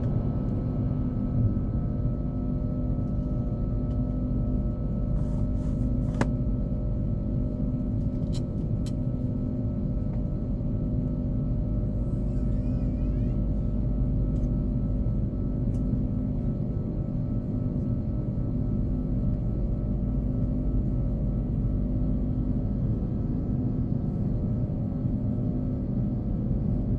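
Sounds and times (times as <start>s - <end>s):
airliner cabin rumble and hums: 0.0s - 26.9s.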